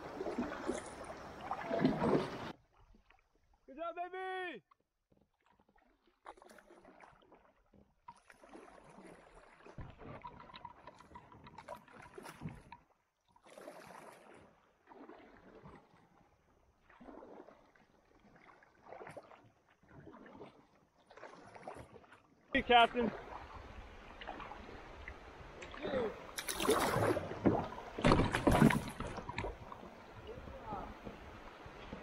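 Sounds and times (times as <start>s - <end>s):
paddle strokes splashing water: 0.0s - 32.0s.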